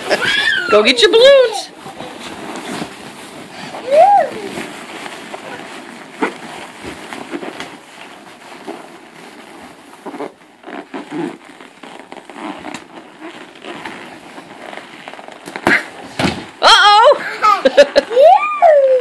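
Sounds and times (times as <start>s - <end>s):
balloons rubbing and squeaking: 0.0s - 19.0s.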